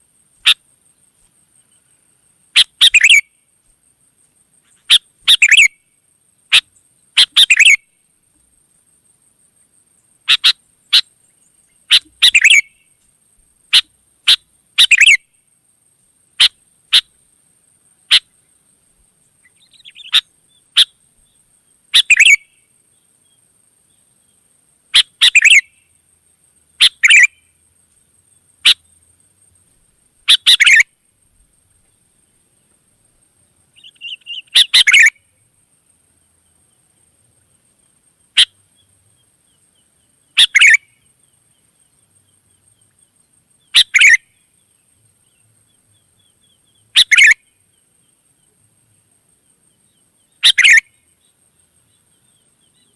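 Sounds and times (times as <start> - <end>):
bird chirping song: 0.4 - 8.7, 9.6 - 15.4, 16.3 - 52.9.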